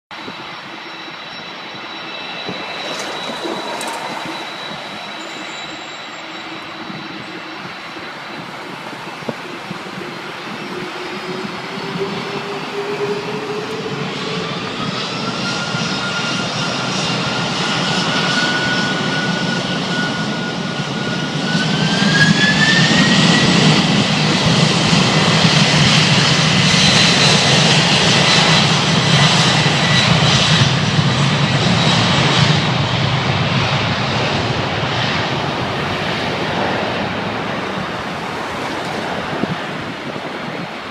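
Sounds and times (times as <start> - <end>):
jet engines spooling up: 0.2 - 40.9.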